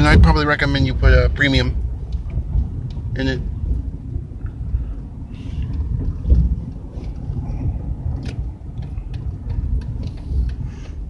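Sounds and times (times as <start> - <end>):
car engine rumble: 0.0 - 11.0
tyre road noise: 0.0 - 11.0.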